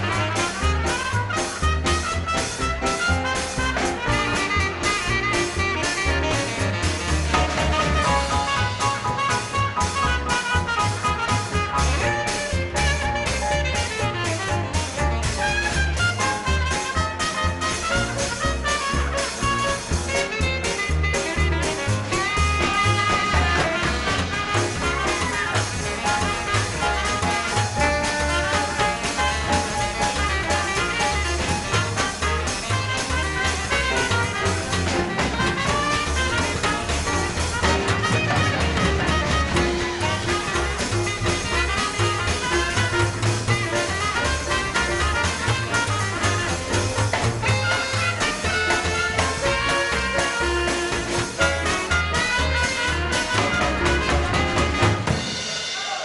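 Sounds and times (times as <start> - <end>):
upright bass walking: 0.0 - 55.4
drums: 0.0 - 56.0
piano: 0.0 - 56.0
saxophone: 0.0 - 56.0
trumpet: 0.0 - 56.0.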